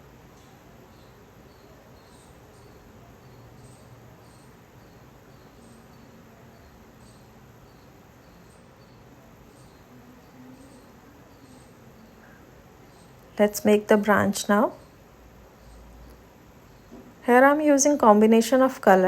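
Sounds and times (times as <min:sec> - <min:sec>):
insect chirping: 0:00.0 - 0:17.9
low background hum: 0:00.0 - 0:19.0.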